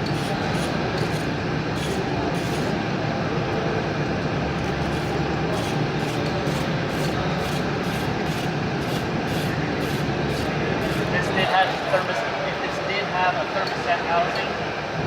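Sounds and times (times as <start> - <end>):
workshop mechanical drone: 0.0 - 13.3.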